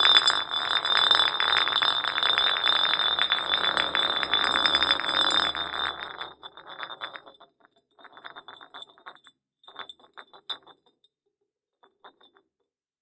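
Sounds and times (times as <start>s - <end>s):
glass bottle rolling on hard ground: 0.0s - 11.1s, 11.8s - 12.5s.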